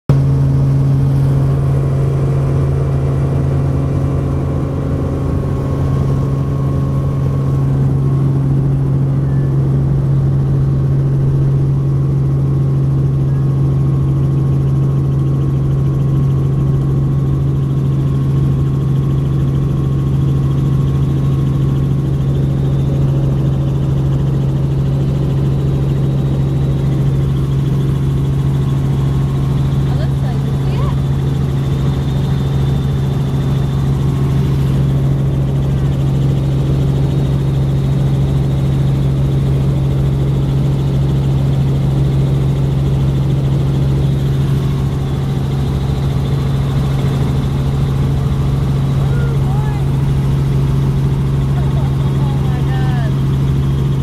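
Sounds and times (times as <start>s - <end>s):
helicopter engine and rotor hum: 0.1s - 54.0s.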